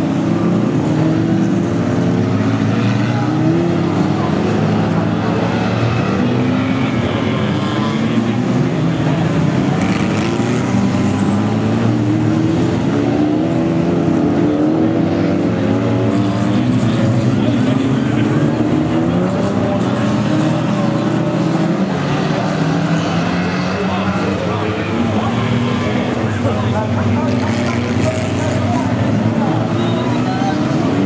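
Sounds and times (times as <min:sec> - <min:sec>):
racing car engines: 0:00.0 - 0:31.0.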